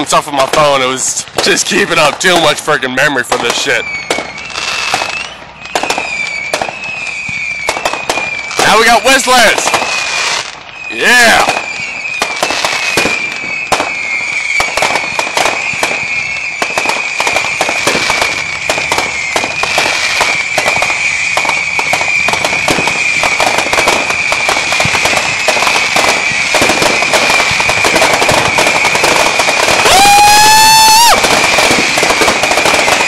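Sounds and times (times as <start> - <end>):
firework crackling pops: 0.0 - 33.0
firework whistle: 0.0 - 33.0.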